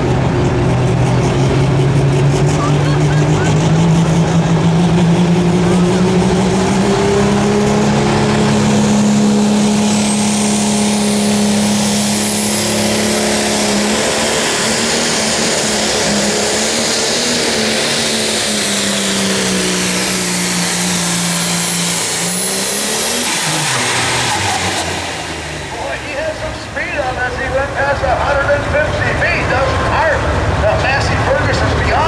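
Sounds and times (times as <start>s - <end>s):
tractor diesel engine at full throttle: 0.0s - 32.0s.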